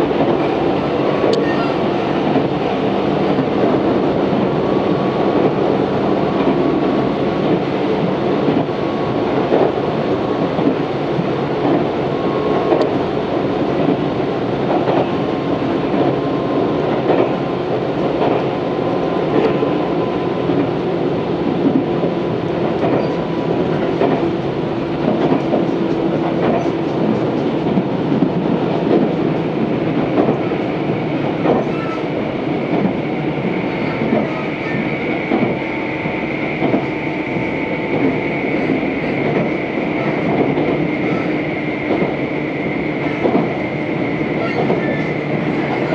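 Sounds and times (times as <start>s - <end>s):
clickety-clack of rail joints: 0.0s - 45.9s
train wheels rumbling on rails: 0.0s - 45.9s.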